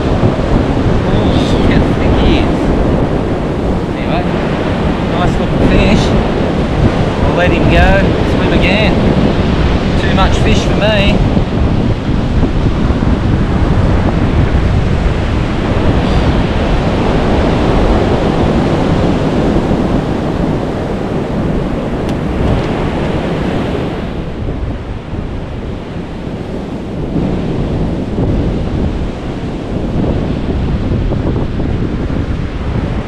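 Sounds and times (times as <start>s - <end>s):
surf breaking on beach: 0.0s - 33.0s
wind buffeting microphone: 0.0s - 33.0s.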